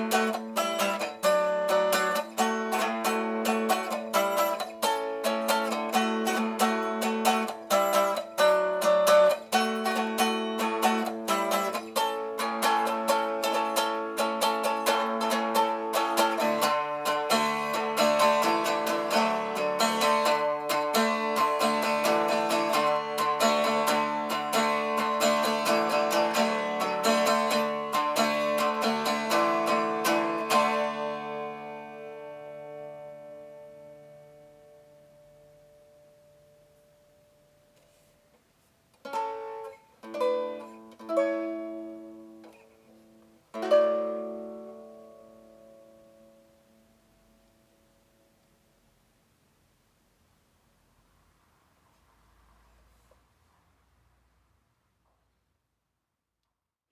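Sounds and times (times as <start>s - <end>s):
cigar box guitar picked notes: 0.0s - 37.8s, 39.0s - 48.0s.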